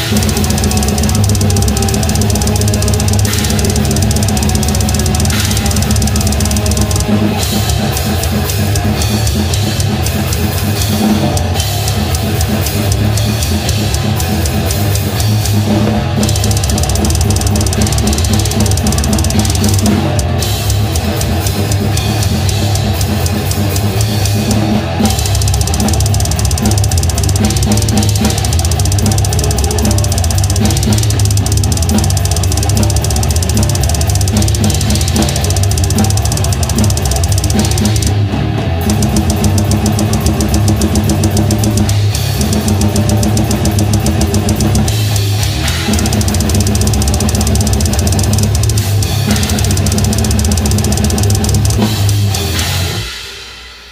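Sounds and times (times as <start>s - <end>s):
bass guitar: 0.0s - 53.4s
electric guitar: 0.0s - 53.4s
drum kit with crash cymbals: 0.0s - 53.9s.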